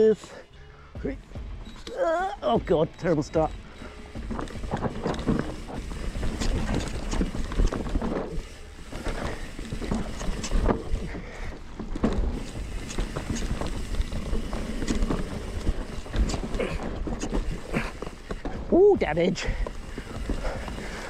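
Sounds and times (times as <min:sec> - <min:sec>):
bike knocking and rattling: 0:00.0 - 0:21.0
low rumble of bike tyres: 0:00.0 - 0:21.0.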